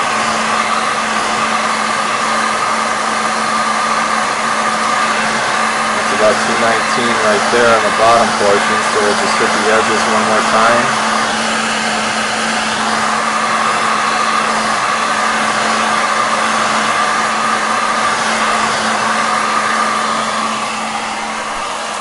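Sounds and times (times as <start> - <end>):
heat gun running: 0.0 - 22.0.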